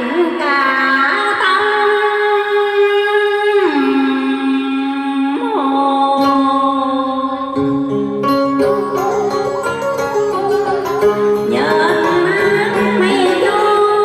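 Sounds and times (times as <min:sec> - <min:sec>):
person singing: 0:00.0 - 0:14.0
instrumental backing: 0:01.2 - 0:14.0.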